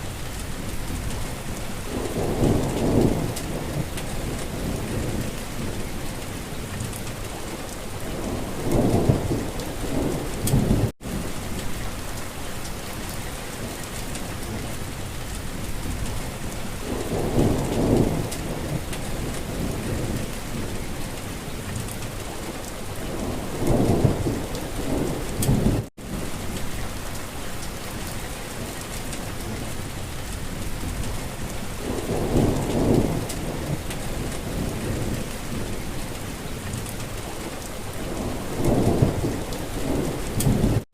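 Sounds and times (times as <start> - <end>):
rain hiss: 0.0 - 40.8.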